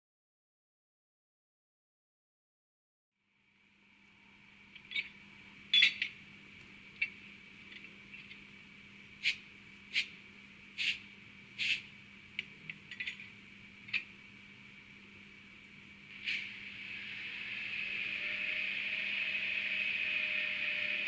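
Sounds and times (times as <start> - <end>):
steady hum: 3.3 - 21.0.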